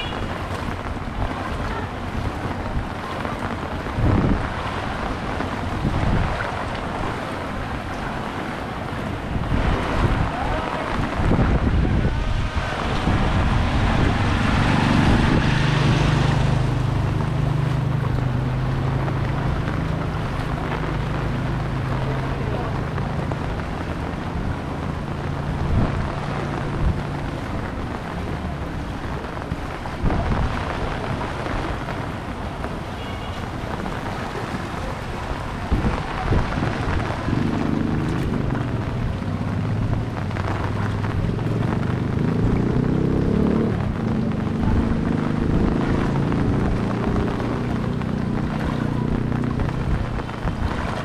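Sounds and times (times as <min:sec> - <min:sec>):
low motor engine hum: 0:00.0 - 0:32.9, 0:36.7 - 0:51.0
steady rain: 0:00.0 - 0:51.0
wading through floodwater: 0:00.0 - 0:51.0
water splashes: 0:00.0 - 0:51.0
wind: 0:00.0 - 0:51.0.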